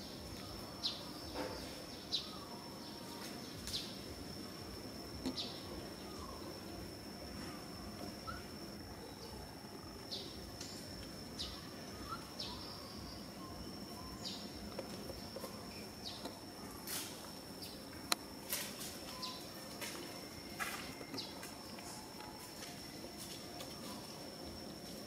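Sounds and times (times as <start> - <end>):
high-pitched insect drone: 0.0 - 25.0.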